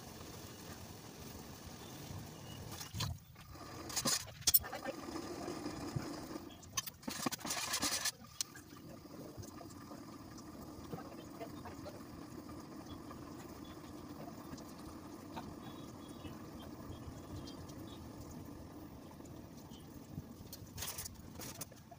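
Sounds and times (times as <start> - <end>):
faint simmering: 0.0 - 21.9
steady low hum: 0.0 - 21.9.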